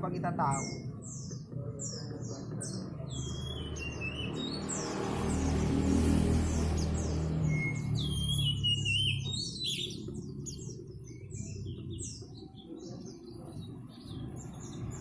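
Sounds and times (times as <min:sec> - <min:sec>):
birds chirping rapidly: 0:00.0 - 0:15.0.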